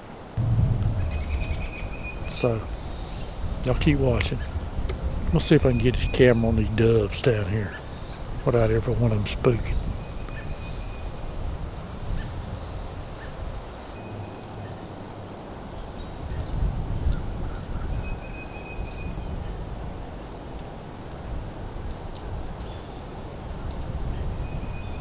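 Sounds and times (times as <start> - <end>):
wind rumble on microphone: 0.4 - 25.0.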